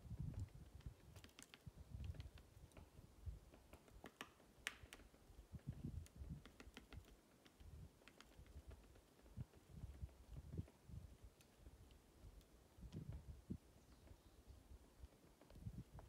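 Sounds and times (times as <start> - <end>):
woodpecker tapping on bark: 0.2 - 13.2, 15.0 - 16.0.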